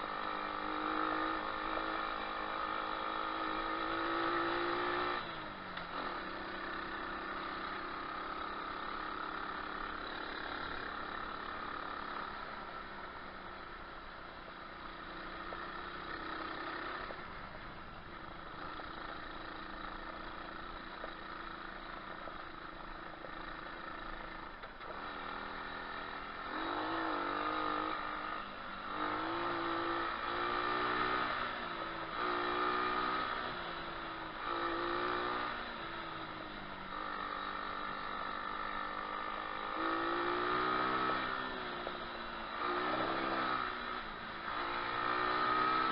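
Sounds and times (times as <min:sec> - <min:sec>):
motorbike engine revving: 0:00.0 - 0:13.6, 0:18.5 - 0:45.9.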